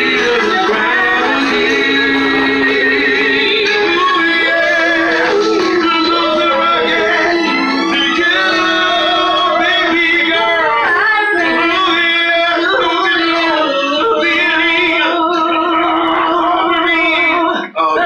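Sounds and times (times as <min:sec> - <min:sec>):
backing music: 0:00.0 - 0:18.0
man and woman singing: 0:00.0 - 0:18.0.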